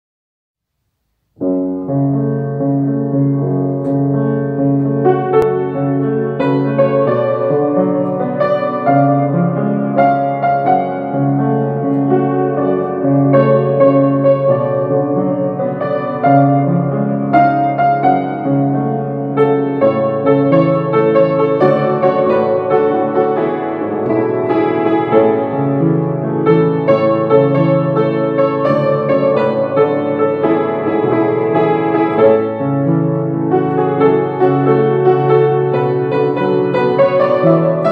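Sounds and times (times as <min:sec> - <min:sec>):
piano music: 0:01.3 - 0:37.9.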